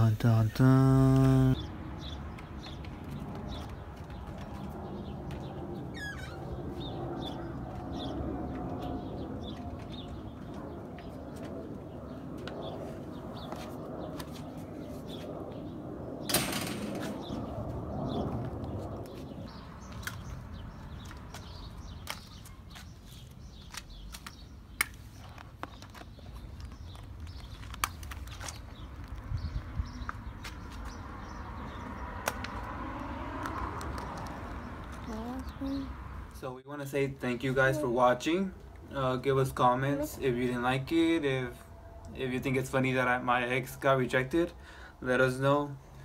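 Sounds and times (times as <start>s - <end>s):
birds chirping: 0.0s - 45.7s.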